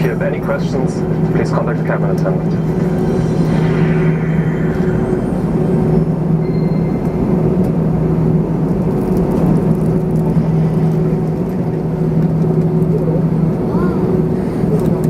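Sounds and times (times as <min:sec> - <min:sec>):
aircraft engine hum at idle: 0:00.0 - 0:15.0.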